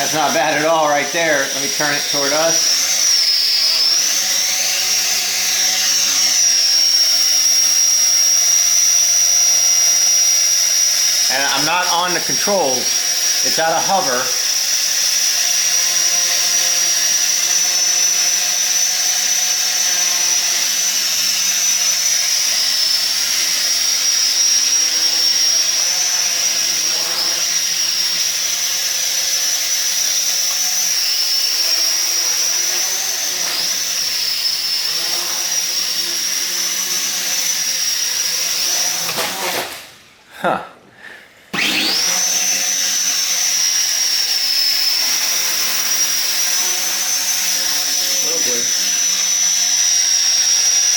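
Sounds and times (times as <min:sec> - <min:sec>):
drone rotors whining: 0:00.0 - 0:39.7, 0:41.5 - 0:50.9.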